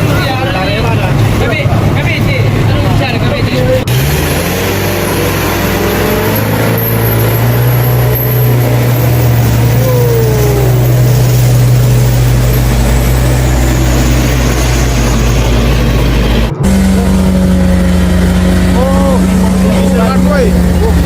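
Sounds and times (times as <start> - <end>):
truck engine droning: 0.0 - 21.0
falling whine: 3.9 - 21.0.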